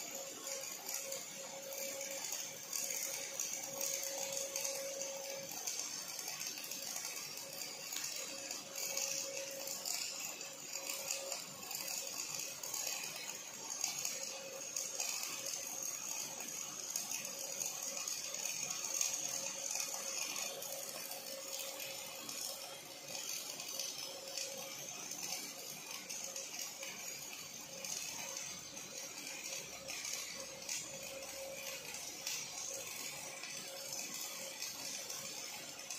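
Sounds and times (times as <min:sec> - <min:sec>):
welding arc crackling and sizzling: 0:00.0 - 0:35.9.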